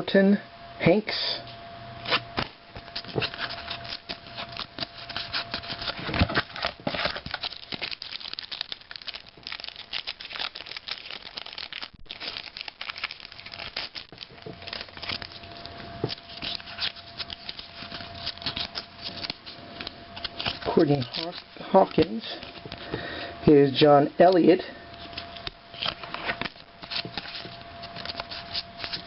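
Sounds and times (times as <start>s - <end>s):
card wrappers tearing and crinkling: 2.1s - 23.0s, 24.3s - 29.0s.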